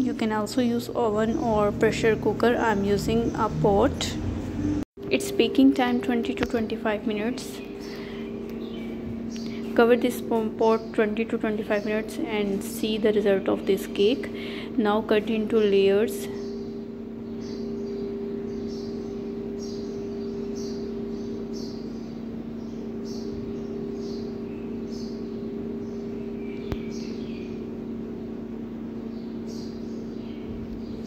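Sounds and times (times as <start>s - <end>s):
low two-tone hum: 0.0s - 31.0s.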